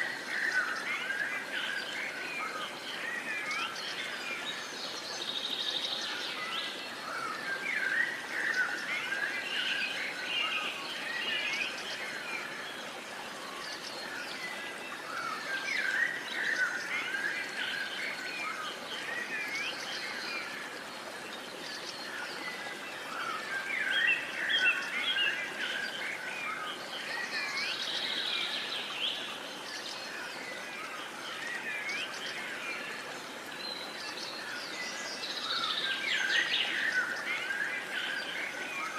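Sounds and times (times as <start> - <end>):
steady outdoor hiss: 0.0 - 38.9.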